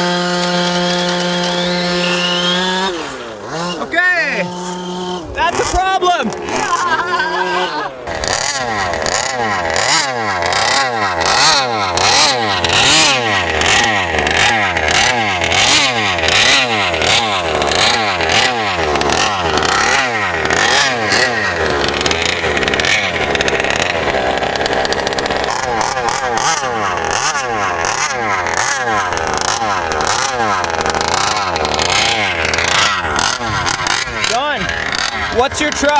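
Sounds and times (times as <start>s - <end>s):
small two-stroke engine revving: 0.0s - 35.9s.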